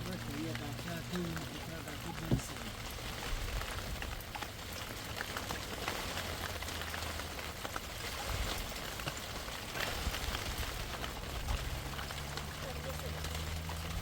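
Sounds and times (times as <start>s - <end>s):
small raindrop hits: 0.0s - 14.0s
steady rain falling: 0.0s - 14.0s.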